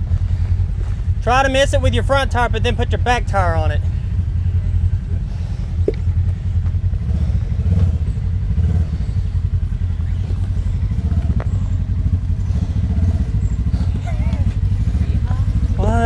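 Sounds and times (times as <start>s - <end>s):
utv engine low rumble: 0.0s - 16.0s.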